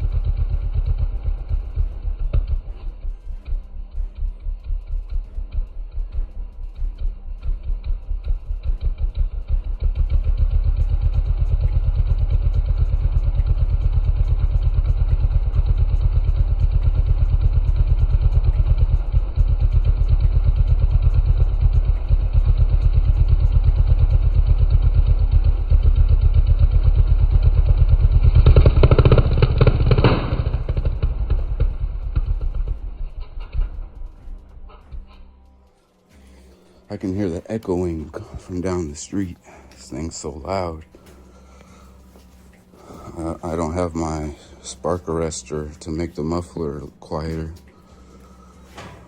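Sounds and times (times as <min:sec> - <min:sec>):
mini bike engine idling and revving: 0:00.0 - 0:35.4, 0:41.8 - 0:47.6.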